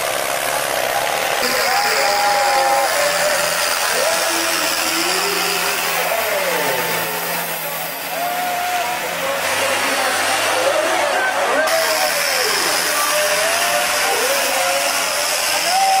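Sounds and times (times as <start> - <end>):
tractor diesel engine under load: 0.0 - 16.0
voices calling out: 0.0 - 16.0.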